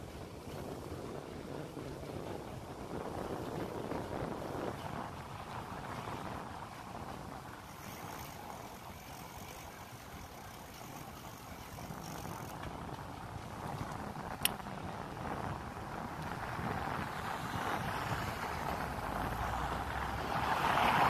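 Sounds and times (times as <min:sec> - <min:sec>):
bicycle rolling rumble: 0:00.0 - 0:21.0
wind buffeting microphone: 0:00.0 - 0:21.0.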